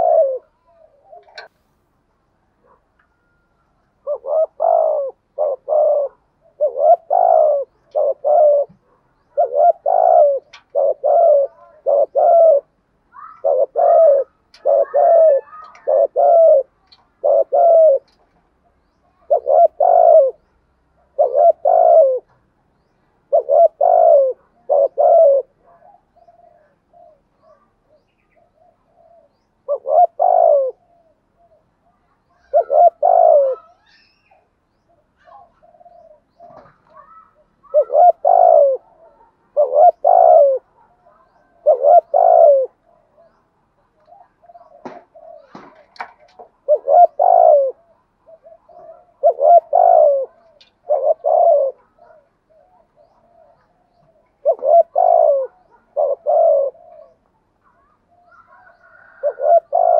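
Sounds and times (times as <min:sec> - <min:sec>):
dove cooing: 0:00.0 - 0:01.5, 0:02.5 - 0:59.9.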